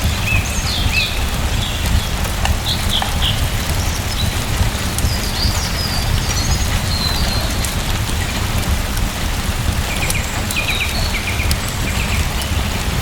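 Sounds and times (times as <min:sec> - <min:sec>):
sharp ticks: 0:00.0 - 0:13.0
steady rain: 0:00.0 - 0:13.0.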